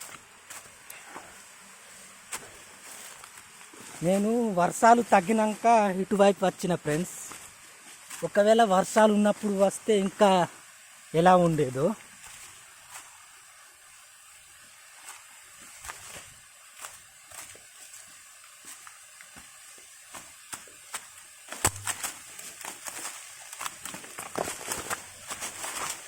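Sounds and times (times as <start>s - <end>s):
faint steady hiss: 0.0s - 26.0s
footsteps on rough ground: 0.0s - 26.0s.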